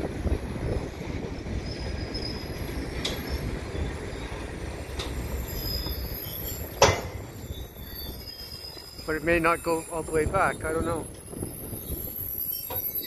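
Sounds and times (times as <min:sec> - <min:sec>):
train wheels rumbling on rail: 0:00.0 - 0:13.0
faint high wheel squeal: 0:01.4 - 0:13.0.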